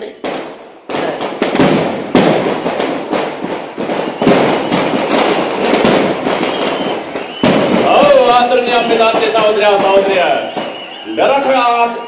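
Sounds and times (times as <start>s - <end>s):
firecrackers popping: 0.0s - 12.0s.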